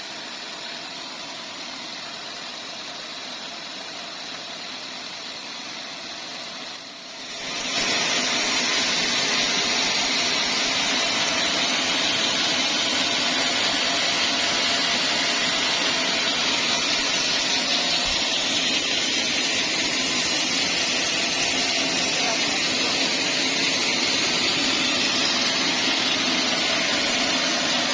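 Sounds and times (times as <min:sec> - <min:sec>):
band saw cutting log: 0:00.0 - 0:27.9.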